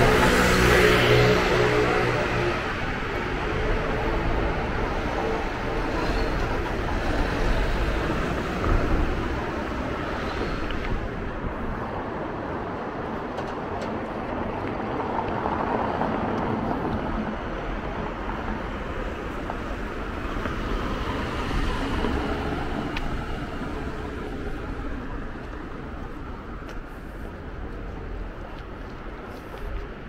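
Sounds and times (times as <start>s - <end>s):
motor vehicles passing: 0.0s - 30.0s.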